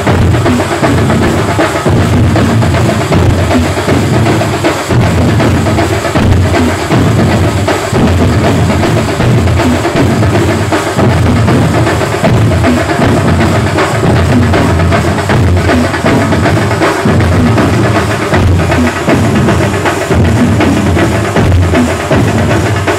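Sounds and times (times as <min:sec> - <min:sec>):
drum ensemble playing fast: 0:00.0 - 0:22.9
metal percussion shaking and clashing: 0:00.0 - 0:22.9.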